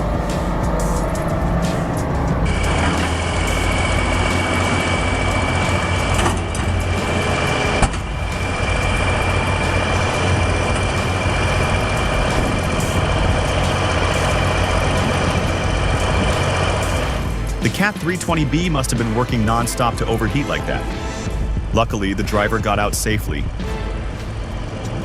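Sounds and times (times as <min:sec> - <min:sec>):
diesel machinery engine running: 0:00.0 - 0:25.0.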